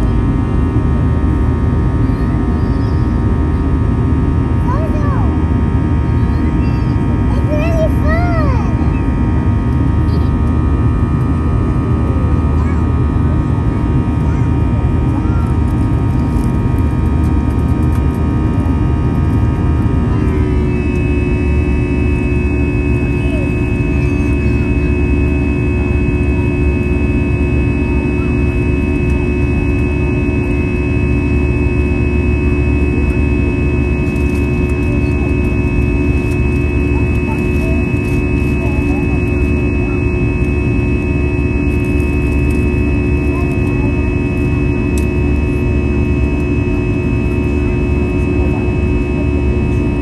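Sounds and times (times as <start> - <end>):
buzzing engine tones: 0.0 - 50.0
jet engine rumble: 0.0 - 50.0.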